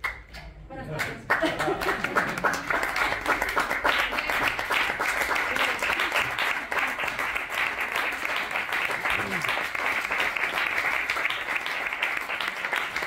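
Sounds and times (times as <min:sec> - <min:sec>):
audience applauding: 0:01.0 - 0:13.0.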